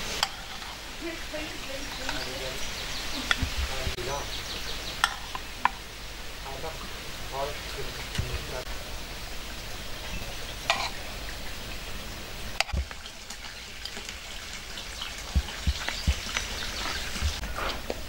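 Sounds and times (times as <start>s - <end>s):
food sizzling in frying: 0.0s - 18.0s.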